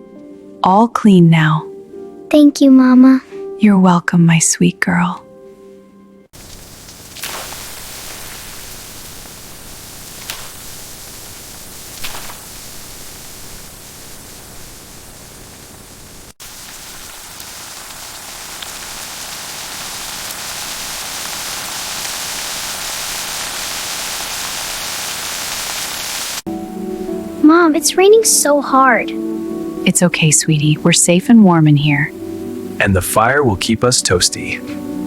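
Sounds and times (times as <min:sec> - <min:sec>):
heavy rain hissing: 0:06.4 - 0:35.0.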